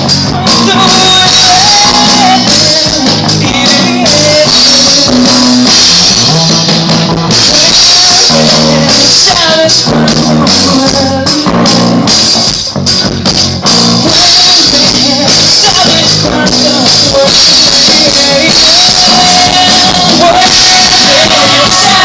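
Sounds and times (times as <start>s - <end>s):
person singing: 0.0s - 6.0s, 7.4s - 12.1s, 14.0s - 22.0s
drum kit and cymbals: 0.0s - 22.0s
rock band playing live: 0.0s - 22.0s.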